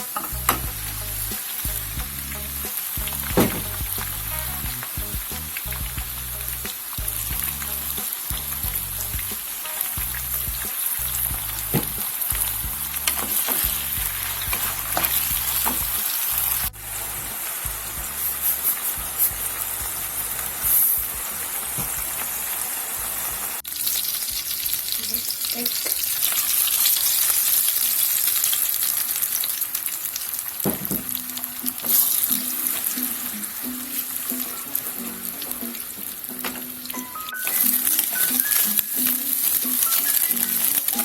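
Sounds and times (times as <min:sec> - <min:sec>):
food sizzling in a pan: 0:00.0 - 0:41.0.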